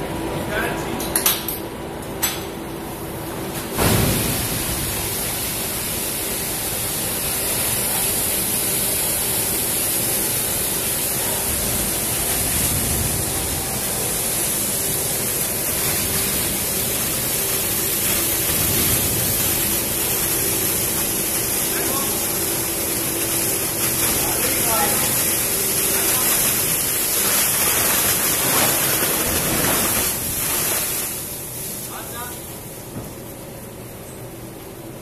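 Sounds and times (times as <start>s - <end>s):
grapes and juice rushing into hopper: 3.4s - 33.3s.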